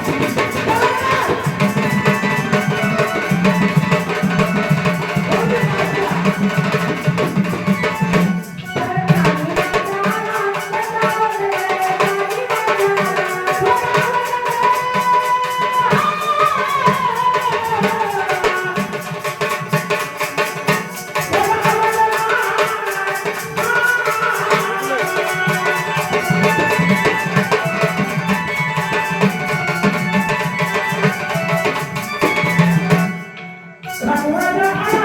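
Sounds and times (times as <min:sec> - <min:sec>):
hand drum beat: 0:00.0 - 0:35.0.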